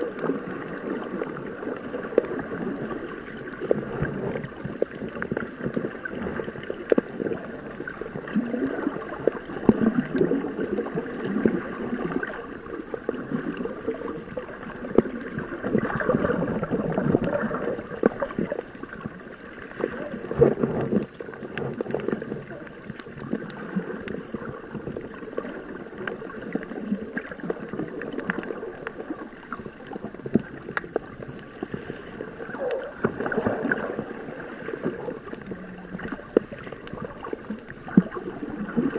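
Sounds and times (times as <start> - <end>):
muffled water sloshing underwater: 0.0 - 38.9.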